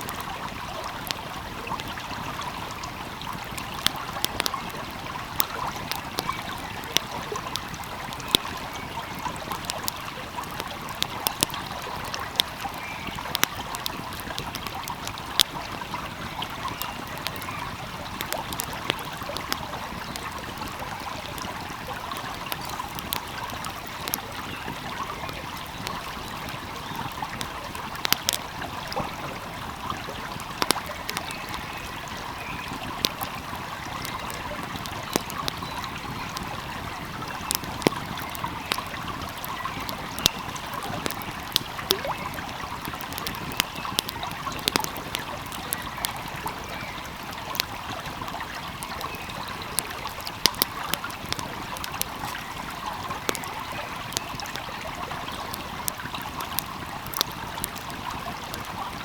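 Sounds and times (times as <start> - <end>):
stream flowing: 0.0 - 59.0
wood fire crackling: 0.0 - 59.0.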